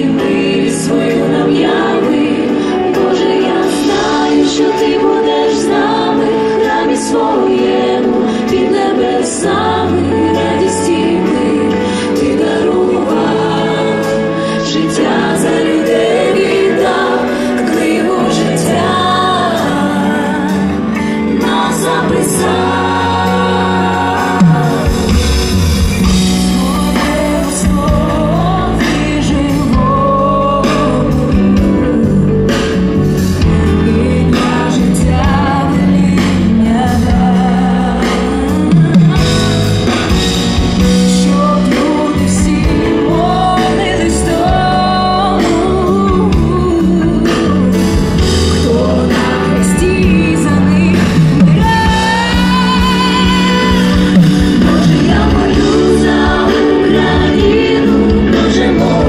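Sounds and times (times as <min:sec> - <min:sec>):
band with guitar keyboard and drums: 0:00.0 - 0:59.0
group singing worship song: 0:00.0 - 0:59.0.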